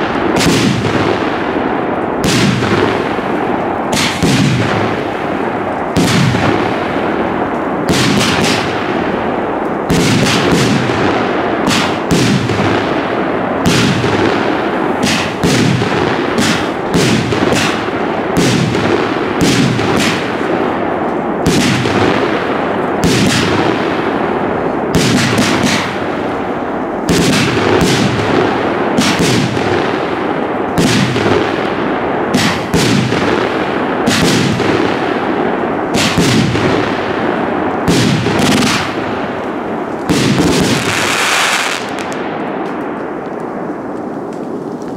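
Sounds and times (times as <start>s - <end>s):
firework cake firing: 0.0s - 44.9s.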